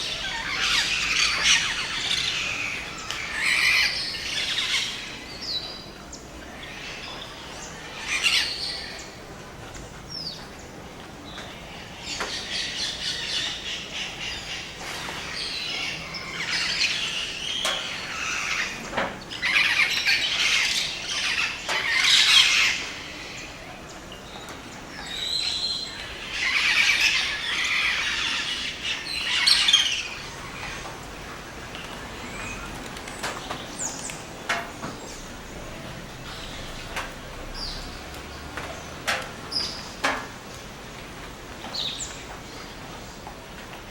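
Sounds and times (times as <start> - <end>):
rainforest birds calling: 0.0 - 43.9.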